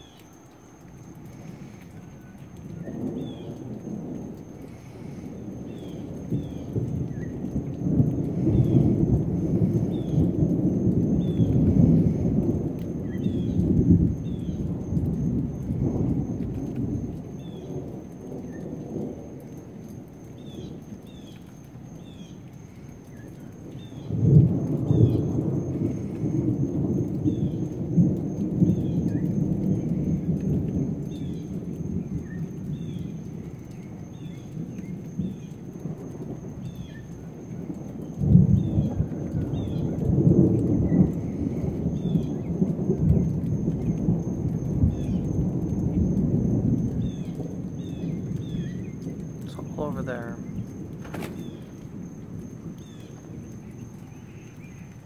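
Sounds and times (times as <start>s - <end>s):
thunder rumbling: 0.0s - 55.0s.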